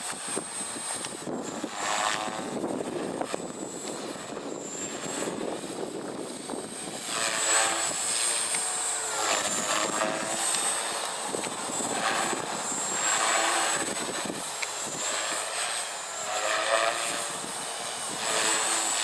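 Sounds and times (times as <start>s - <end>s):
rc helicopter rotor whine: 0.0s - 19.0s
wind on microphone: 0.0s - 19.0s.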